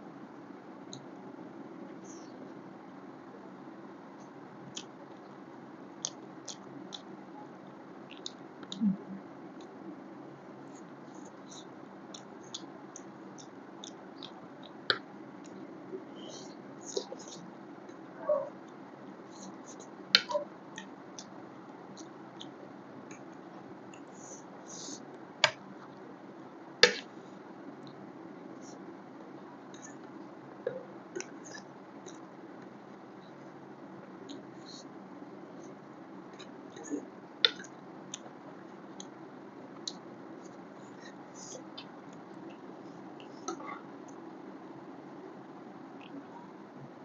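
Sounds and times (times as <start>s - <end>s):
steady low hiss: 0.0s - 47.0s.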